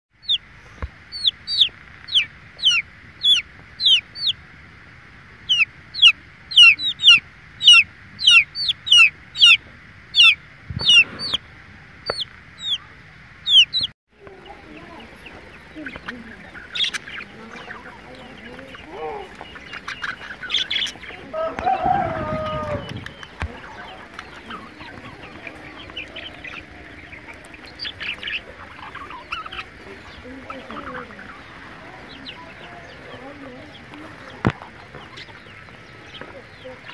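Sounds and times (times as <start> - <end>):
budgerigars chirping: 0.2 - 4.4, 5.4 - 11.4, 12.0 - 36.9
chicks peeping: 0.2 - 36.9.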